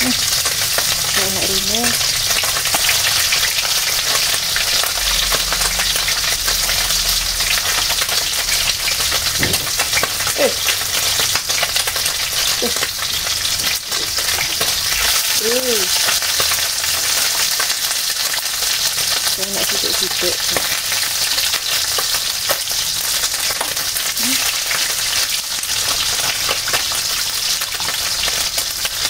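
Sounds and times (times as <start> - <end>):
fish frying in hot oil: 0.0 - 29.0.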